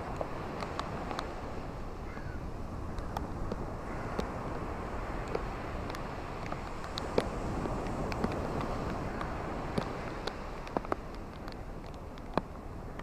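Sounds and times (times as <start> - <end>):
small crackles and clicks: 0.0 - 1.5, 2.9 - 4.6, 5.2 - 13.0
ocean surf washing onto beach: 0.0 - 13.0.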